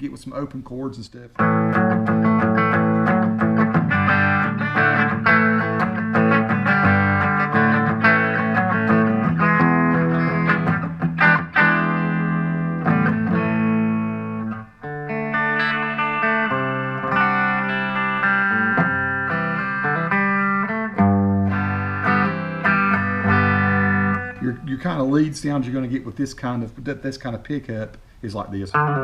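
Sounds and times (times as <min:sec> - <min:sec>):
clean electric guitar chords strummed: 0:01.4 - 0:24.7, 0:28.7 - 0:29.0.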